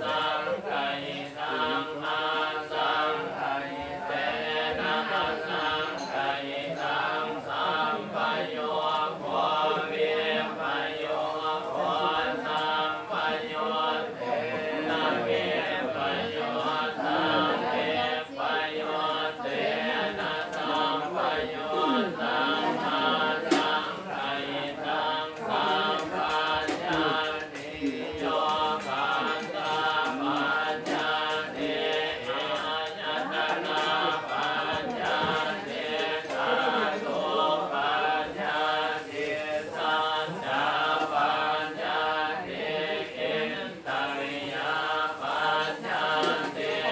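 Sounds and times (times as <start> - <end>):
group chanting in unison: 0.0 - 46.9.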